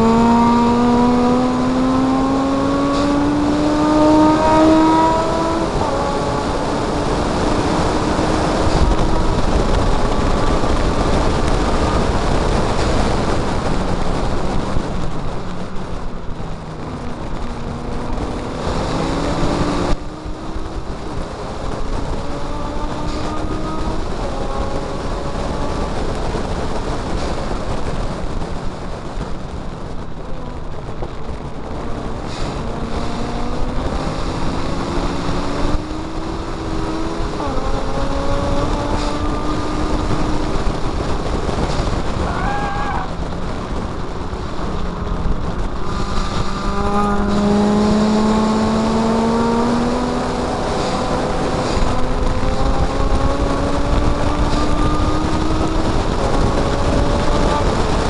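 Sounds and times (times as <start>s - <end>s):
car engine revving hard: 0.0s - 58.0s
wind and road noise: 0.0s - 58.0s.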